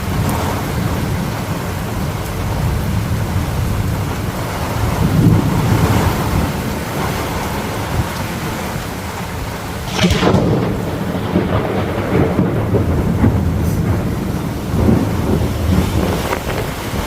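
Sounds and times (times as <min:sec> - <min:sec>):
steady rain: 0:00.0 - 0:17.0
thunderclap and rumbling thunder: 0:00.0 - 0:17.0.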